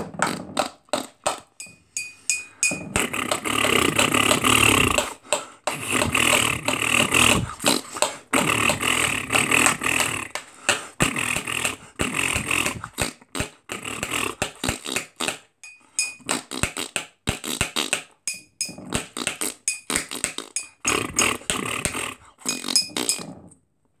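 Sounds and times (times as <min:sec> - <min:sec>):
man beatboxing: 0:00.0 - 0:23.3.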